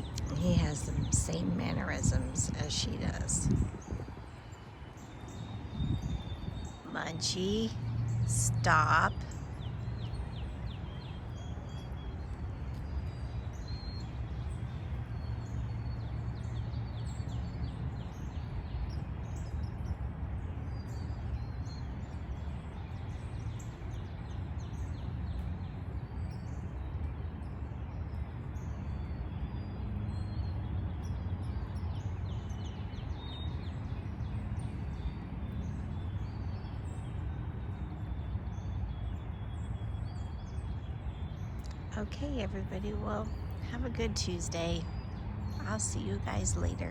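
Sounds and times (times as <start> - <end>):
low outdoor background haze: 0.0 - 46.9
small birds chirping: 0.0 - 46.9.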